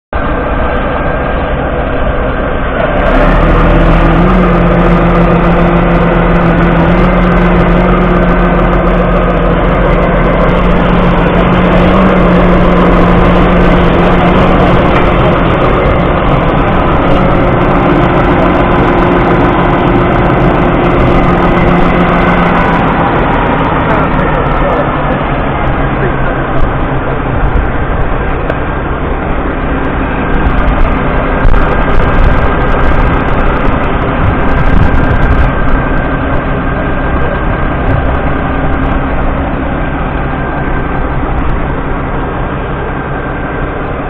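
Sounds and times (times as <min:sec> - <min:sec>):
tractor diesel engine running: 0:00.1 - 0:44.0.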